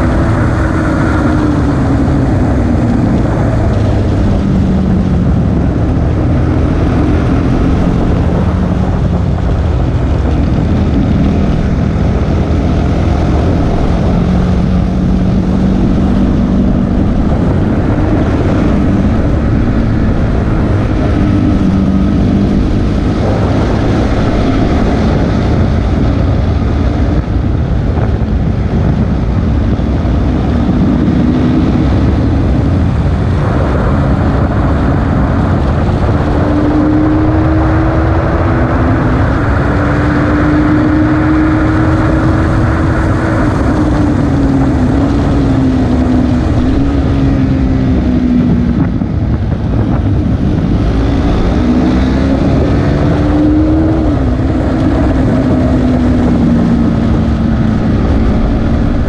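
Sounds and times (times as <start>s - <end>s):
motorcycle engine running hard: 0.0s - 59.0s
wind rush: 0.0s - 59.0s.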